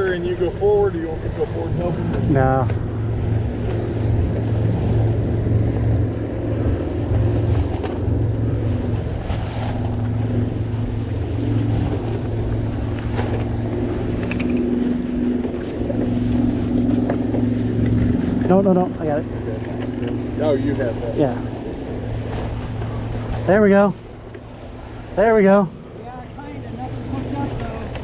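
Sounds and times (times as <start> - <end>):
low motor hum: 0.0 - 28.0
water noise: 0.0 - 28.0
wind: 0.0 - 28.0.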